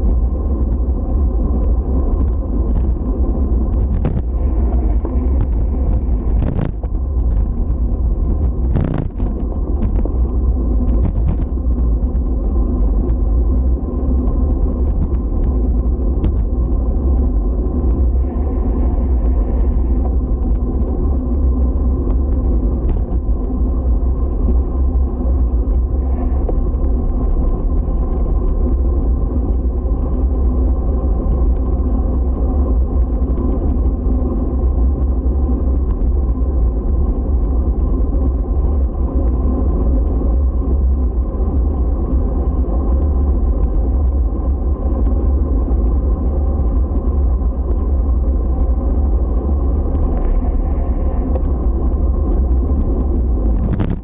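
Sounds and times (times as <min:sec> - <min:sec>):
loud low rumble: 0:00.0 - 0:54.0.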